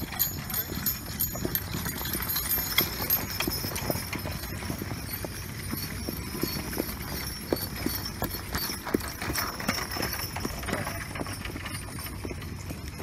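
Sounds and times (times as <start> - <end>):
horse hoofbeats on dirt: 0.0 - 13.0.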